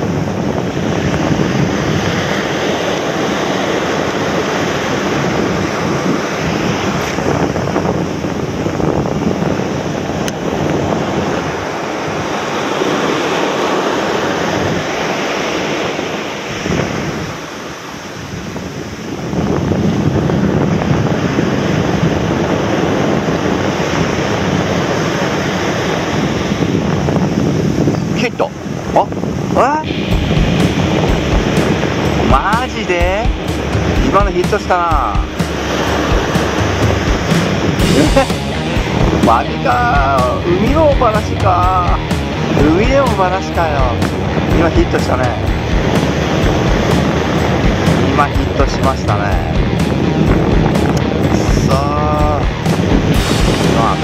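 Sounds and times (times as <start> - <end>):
surf washing up sandy beach: 0.0 - 54.0
wind buffeting microphone: 0.0 - 54.0.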